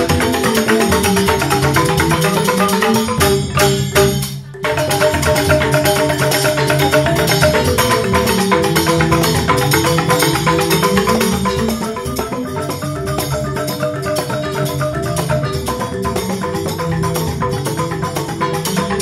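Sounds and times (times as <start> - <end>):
bamboo xylophones playing fast: 0.0 - 19.0
percussion: 0.0 - 19.0.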